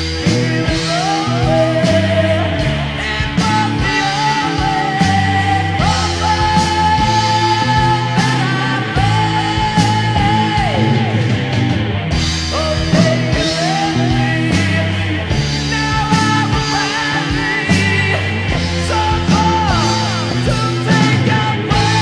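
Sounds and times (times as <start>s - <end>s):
heavy metal song from vinyl: 0.0s - 22.0s.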